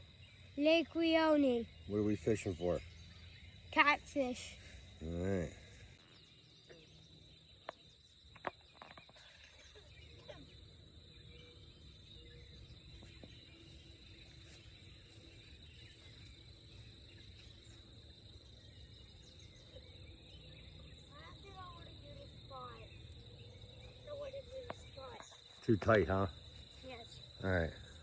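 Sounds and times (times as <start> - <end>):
low outdoor hum: 0.0 - 28.0.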